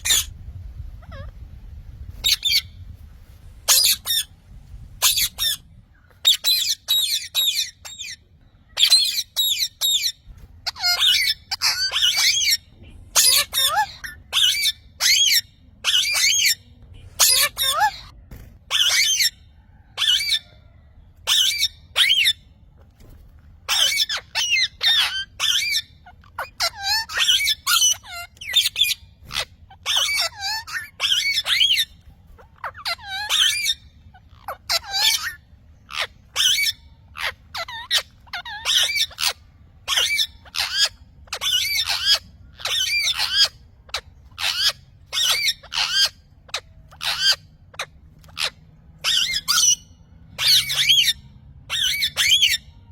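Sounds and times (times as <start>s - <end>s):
parrot squawking: 0.0s - 1.5s, 2.2s - 2.7s, 3.6s - 4.3s, 5.0s - 22.5s, 23.6s - 52.9s.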